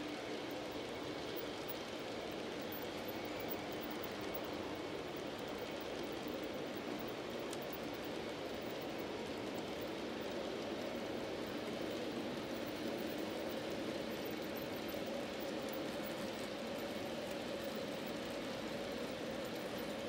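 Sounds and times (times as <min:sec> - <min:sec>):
faint steady hum: 0:00.0 - 0:20.0
model train wheels rolling on rails: 0:00.0 - 0:20.0.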